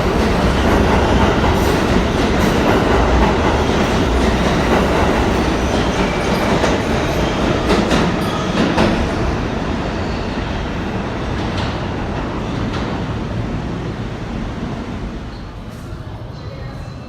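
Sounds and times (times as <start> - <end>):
subway train wheels clacking: 0.0 - 17.0.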